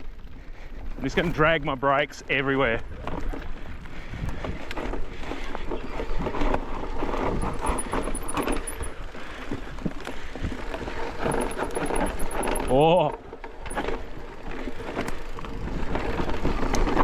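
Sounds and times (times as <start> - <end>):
bike tyres on rocky dirt: 0.0 - 17.0
bike rattling and knocking: 2.8 - 17.0.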